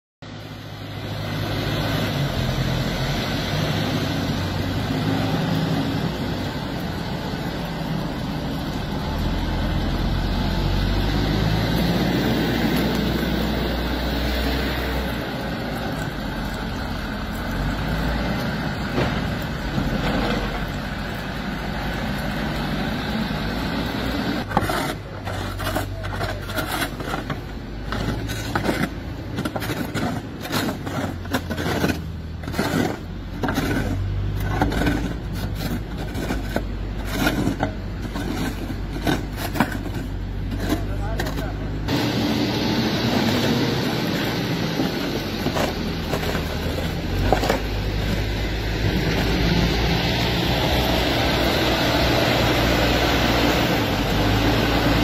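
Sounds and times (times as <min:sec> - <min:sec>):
heavy diesel engines running: 0:00.3 - 0:55.0
snow shovels scraping pavement: 0:01.6 - 0:55.0.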